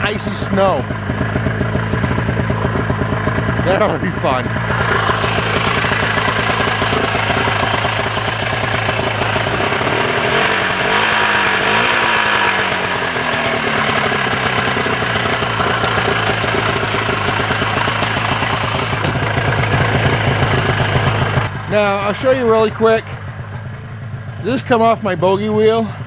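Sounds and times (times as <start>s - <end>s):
snowmobile engine idling: 0.0s - 26.0s.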